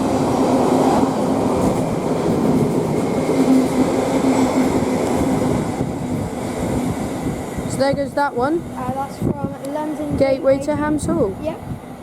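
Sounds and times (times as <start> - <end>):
freight train wheels rumbling on track: 0.0 - 12.0.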